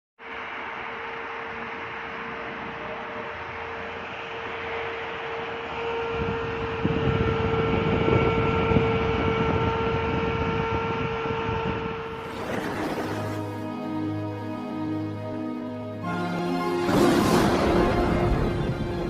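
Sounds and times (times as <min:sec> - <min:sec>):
electric fan humming: 0:00.4 - 0:16.8.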